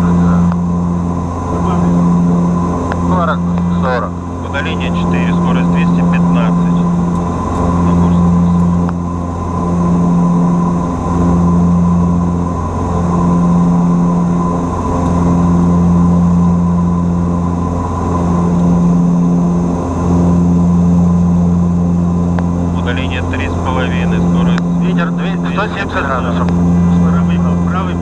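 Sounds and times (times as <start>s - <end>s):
faint steady engine whine: 0.0s - 28.0s
propeller drone: 0.0s - 28.0s.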